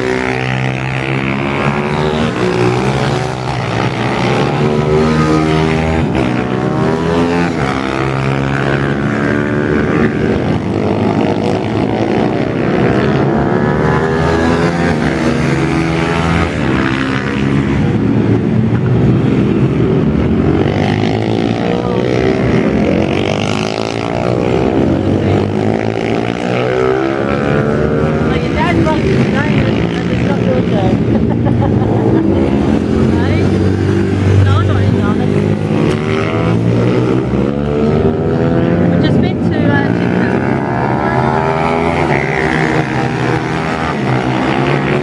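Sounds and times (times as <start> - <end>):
pit bike engines revving: 0.0 - 45.0.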